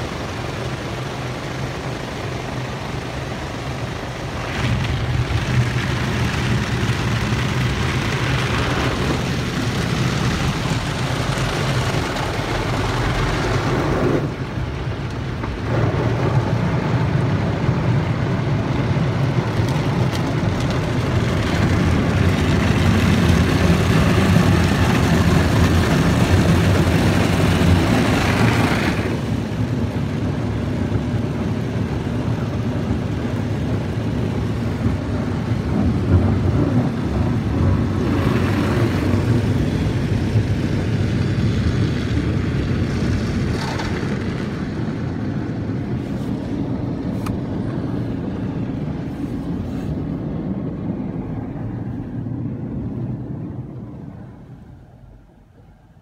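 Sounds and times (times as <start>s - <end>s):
car wash machinery rumble: 0.0s - 56.0s.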